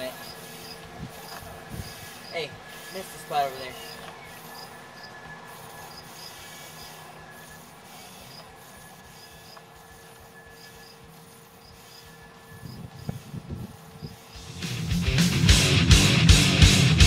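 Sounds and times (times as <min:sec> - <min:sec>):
robot motors whining: 0:00.0 - 0:14.4
rubbing noise: 0:00.0 - 0:14.4
high chirps: 0:00.0 - 0:14.6.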